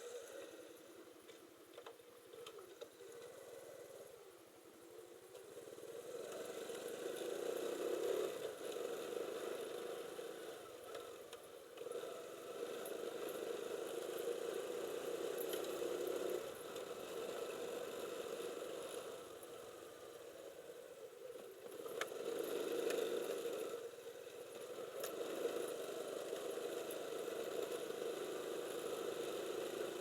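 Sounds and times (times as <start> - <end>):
small motorcycle engine running: 5.4 - 30.0.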